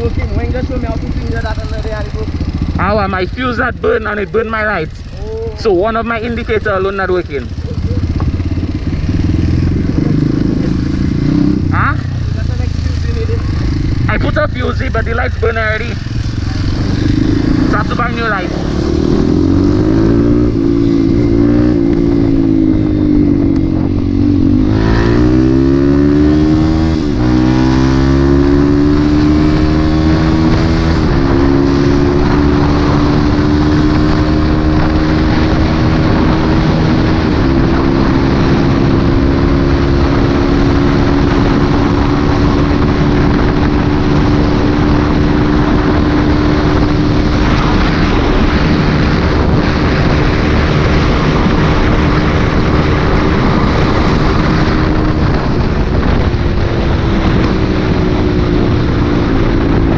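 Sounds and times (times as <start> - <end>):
motorcycle engine: 0.0 - 59.9
wind noise: 0.0 - 59.9.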